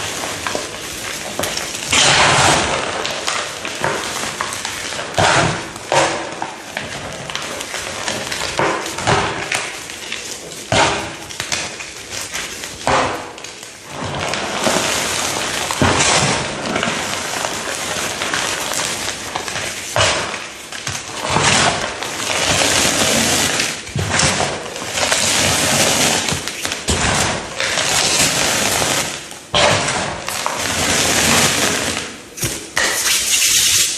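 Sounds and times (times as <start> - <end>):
brittle material crushed by hand: 0.0 - 33.8.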